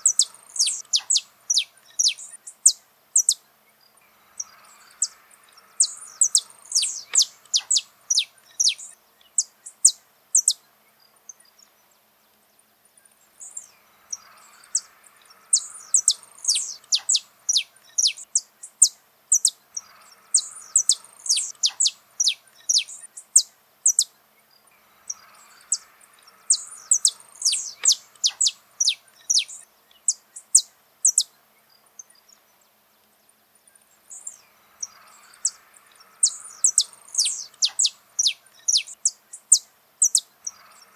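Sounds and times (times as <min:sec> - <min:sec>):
finch singing: 0:00.0 - 0:12.0, 0:13.2 - 0:32.6, 0:33.7 - 0:40.9.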